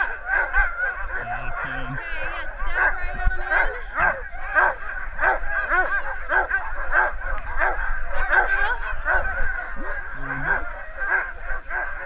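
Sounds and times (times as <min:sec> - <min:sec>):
sled dogs barking and yipping: 0:00.0 - 0:12.0.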